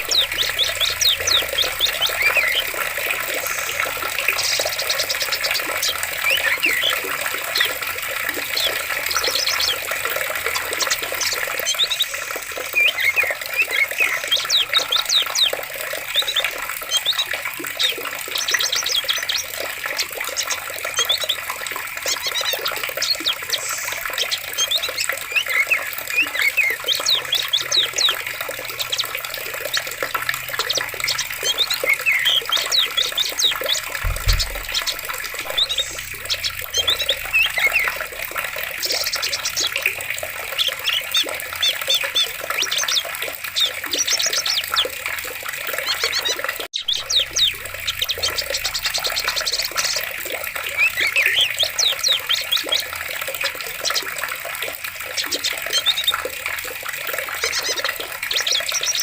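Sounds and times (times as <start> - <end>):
small birds chirping: 0.0 - 56.4, 57.1 - 59.0
running water: 0.0 - 59.0.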